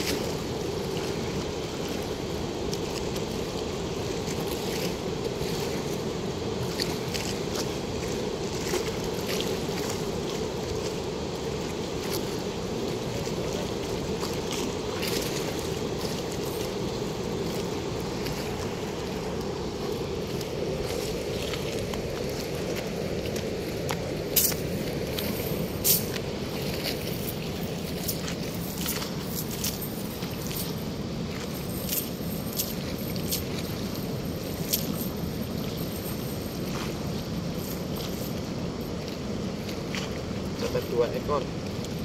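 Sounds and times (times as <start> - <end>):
water rushing through sluice gate: 0.0 - 42.0.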